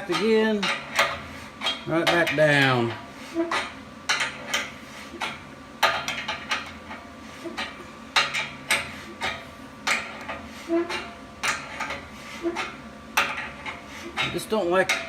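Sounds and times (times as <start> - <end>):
steel clanking and knocking: 0.0 - 15.0.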